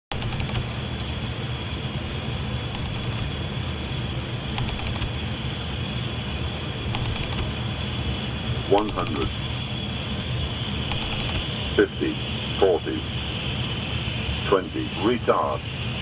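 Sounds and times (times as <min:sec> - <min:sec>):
airflow and engine rush: 0:00.1 - 0:16.0.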